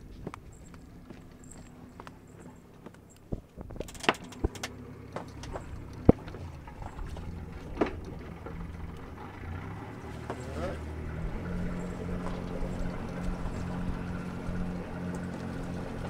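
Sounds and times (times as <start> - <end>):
low steady hum: 0.0 - 16.0
deck gear knocking and clunking: 2.7 - 16.0.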